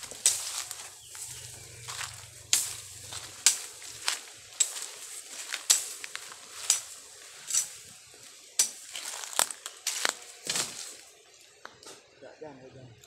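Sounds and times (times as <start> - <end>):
dry leaves and twigs crunching: 0.0 - 11.8.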